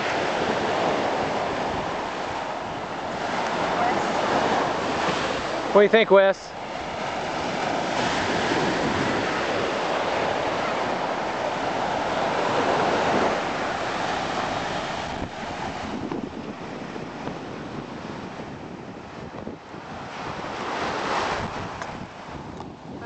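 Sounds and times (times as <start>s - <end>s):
surf washing up beach: 0.0s - 23.0s
wind on microphone: 0.0s - 23.0s.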